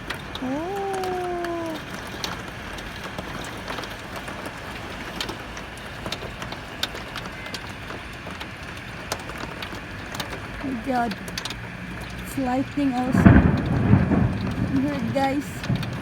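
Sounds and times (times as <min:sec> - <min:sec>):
heavy rain pouring: 0:00.0 - 0:16.0
raindrops ticking on window glass: 0:00.0 - 0:16.0.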